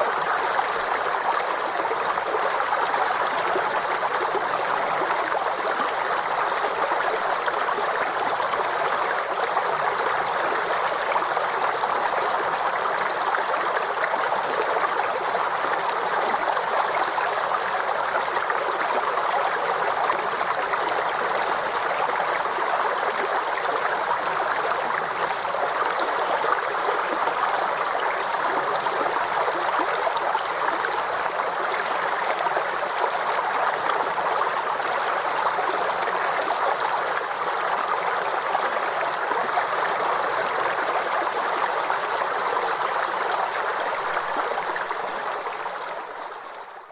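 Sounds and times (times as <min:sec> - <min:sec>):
stream flowing over rocks: 0:00.0 - 0:46.9.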